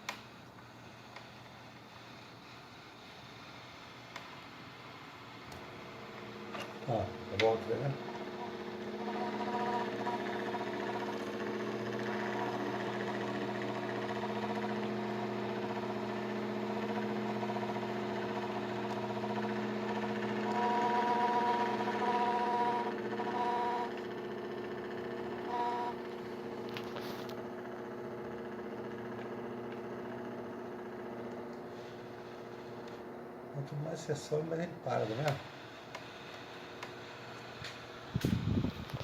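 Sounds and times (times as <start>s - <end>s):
air conditioner humming: 0.0s - 39.0s
fan motor whine: 0.0s - 39.0s.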